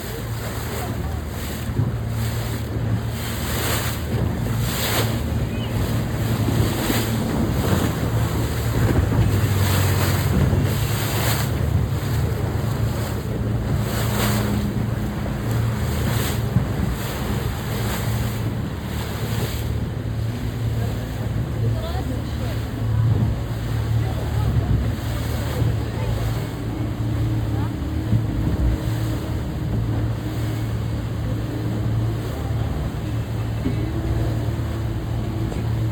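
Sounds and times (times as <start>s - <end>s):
sea waves washing: 0.0s - 35.9s
wind buffeting microphone: 0.0s - 35.9s.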